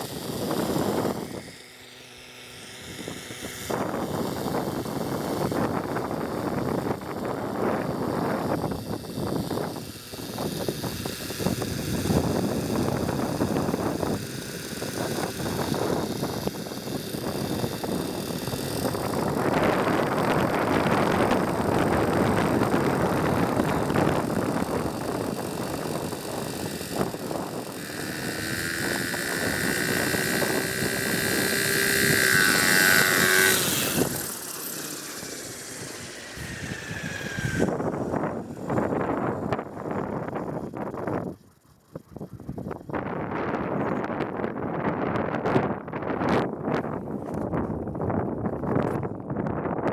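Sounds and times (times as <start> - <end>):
wind on microphone: 0.0 - 1.7, 2.5 - 49.9
whining tone rising: 0.0 - 44.3
rc helicopter engine and rotor: 0.0 - 49.9.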